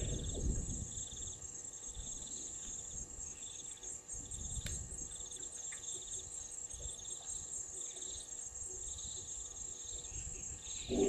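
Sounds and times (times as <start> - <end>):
insects trilling: 0.0 - 11.0
lower insect trill bursts: 0.0 - 11.0.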